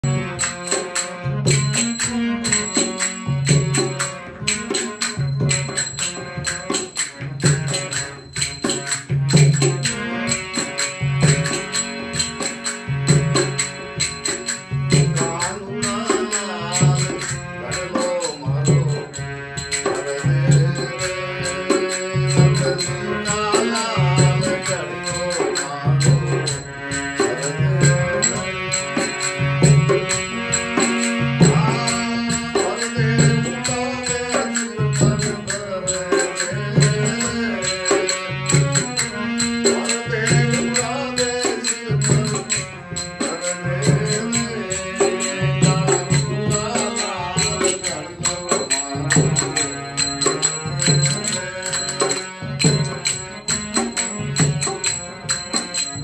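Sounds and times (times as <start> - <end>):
drum strokes: 0.0 - 56.0
harmonium playing: 0.0 - 56.0
jingling percussion: 0.0 - 56.0
man singing: 0.0 - 56.0.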